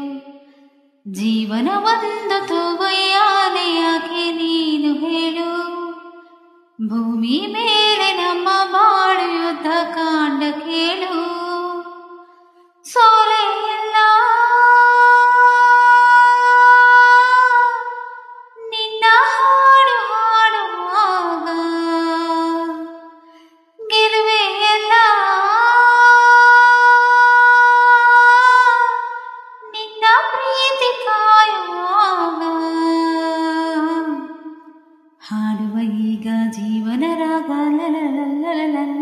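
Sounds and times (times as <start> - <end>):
woman singing wordless high notes: 0.0 - 0.5, 1.1 - 12.2, 12.9 - 39.0.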